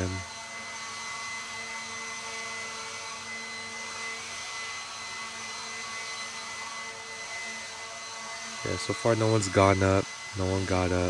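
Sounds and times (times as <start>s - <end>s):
leaf blower whine and air rush: 0.0s - 11.0s.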